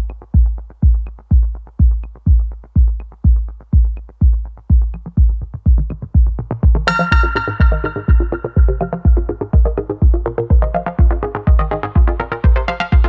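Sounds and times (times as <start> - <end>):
deep kick drum: 0.0 - 13.0
synth chords: 0.0 - 13.0.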